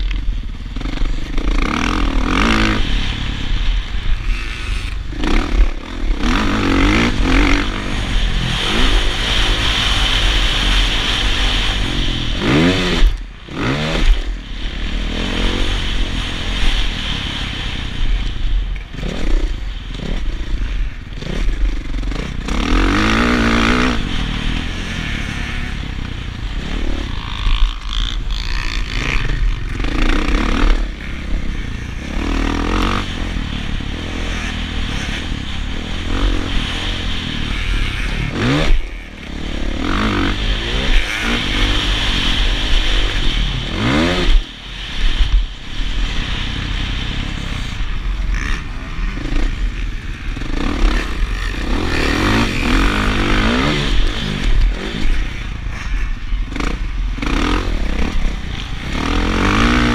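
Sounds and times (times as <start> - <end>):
bike scraping and rattling: 0.0 - 59.9
motocross bike engine revving: 0.0 - 59.9.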